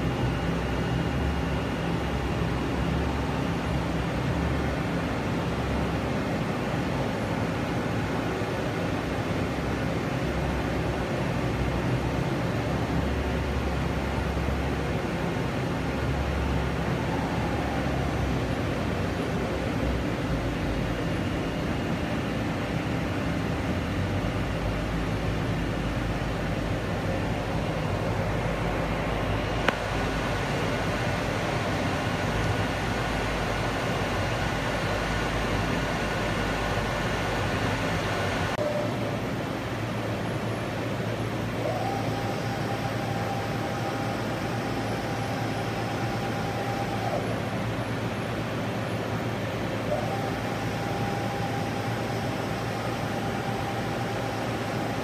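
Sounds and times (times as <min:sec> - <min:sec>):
machine hum with hiss: 0:00.0 - 0:55.0.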